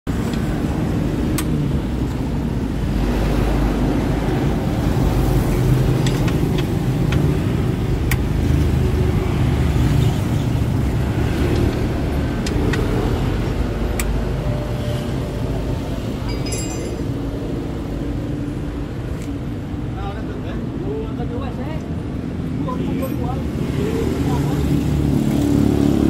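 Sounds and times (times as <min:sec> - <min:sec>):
traffic rumble: 0:00.1 - 0:26.0.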